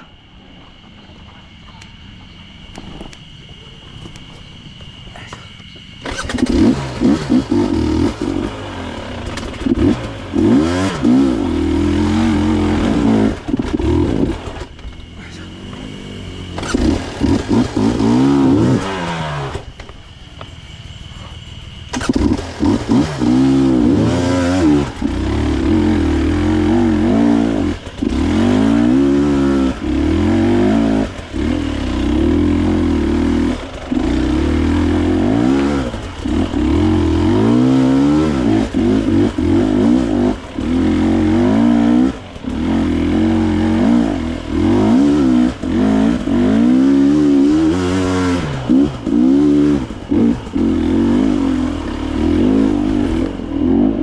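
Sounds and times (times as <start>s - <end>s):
dirt bike engine revving: 6.0s - 54.0s.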